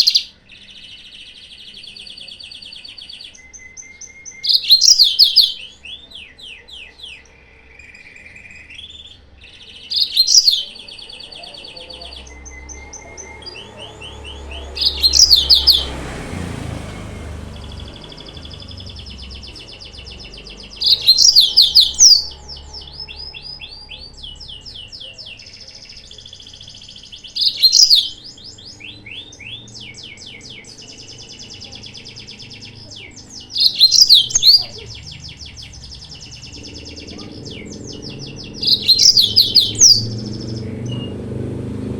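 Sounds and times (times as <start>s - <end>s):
bird trilling: 0.0s - 41.2s.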